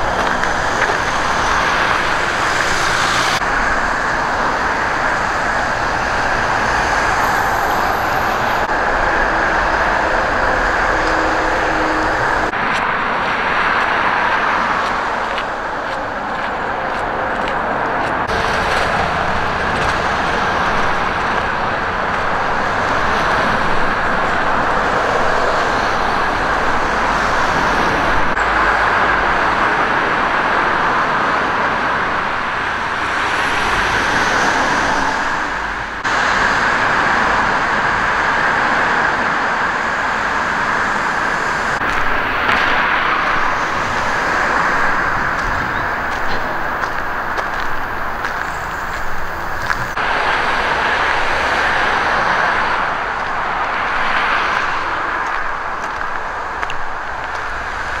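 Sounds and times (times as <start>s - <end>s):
steady outdoor roar: 0.0s - 58.0s.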